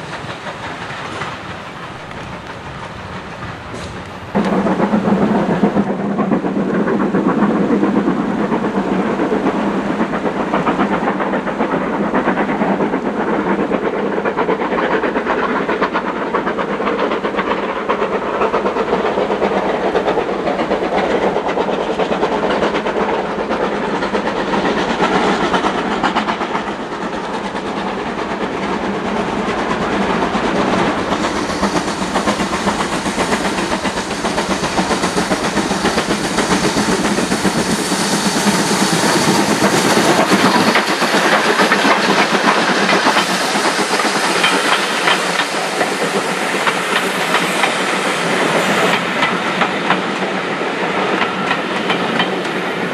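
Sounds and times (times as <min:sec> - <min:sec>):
steam locomotive chuffing: 0:00.0 - 0:52.9.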